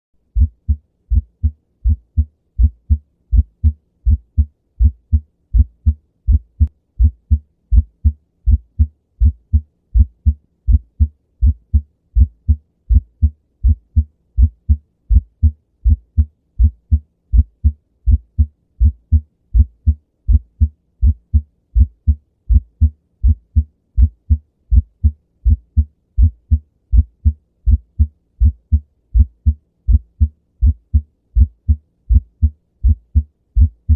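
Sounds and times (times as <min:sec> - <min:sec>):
heartbeat thuds: 0:00.3 - 0:33.9.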